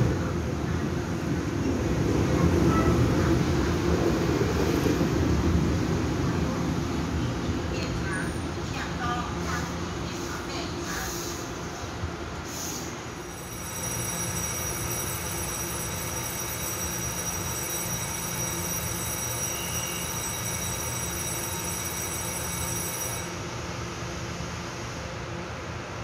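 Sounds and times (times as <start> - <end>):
electric train running hum: 0.0 - 26.0.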